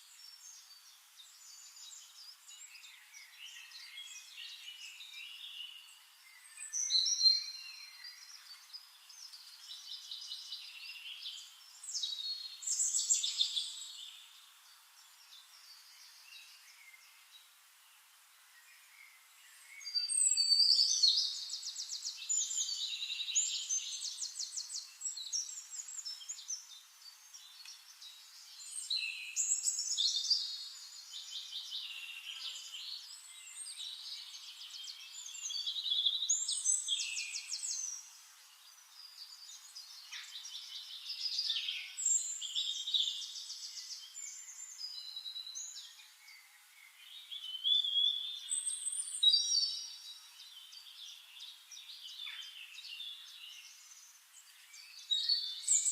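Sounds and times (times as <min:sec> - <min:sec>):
songbirds singing trills: 0:00.0 - 0:55.9.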